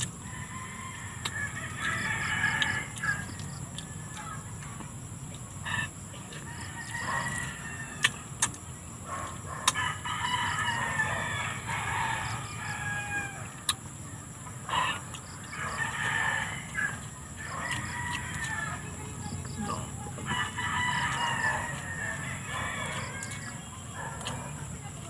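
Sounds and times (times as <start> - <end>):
chickens clucking and calling: 0.0 - 25.0
crowing-like calls: 0.2 - 4.8, 5.6 - 8.4, 9.2 - 13.7, 14.6 - 25.0.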